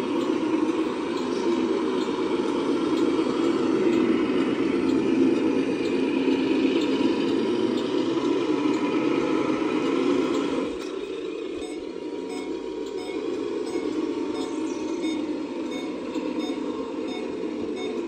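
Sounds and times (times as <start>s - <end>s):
model truck motor drone: 0.0s - 18.0s.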